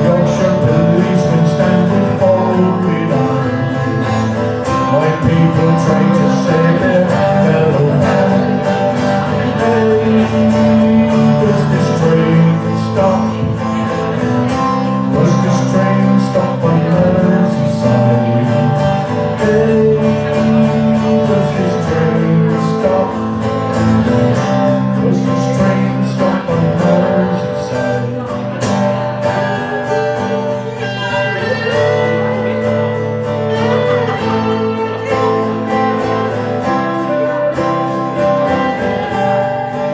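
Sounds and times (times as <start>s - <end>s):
person singing: 0.0s - 39.9s
strummed acoustic guitar: 0.0s - 39.9s.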